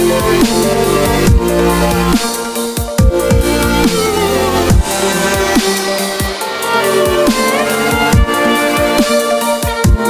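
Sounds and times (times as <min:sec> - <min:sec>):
melodic dubstep music: 0:00.0 - 0:10.0.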